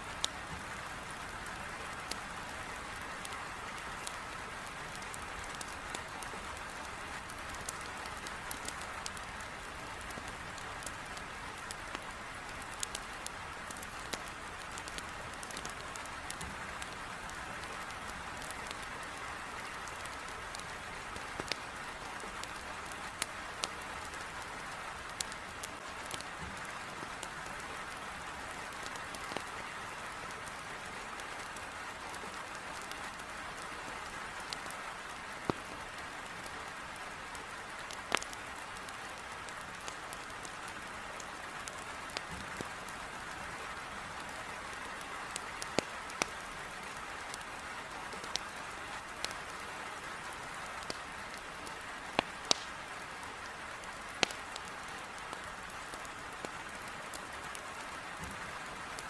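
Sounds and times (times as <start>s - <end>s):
heavy rain against a window: 0.0s - 59.0s
wood fire crackling and popping: 0.0s - 59.0s.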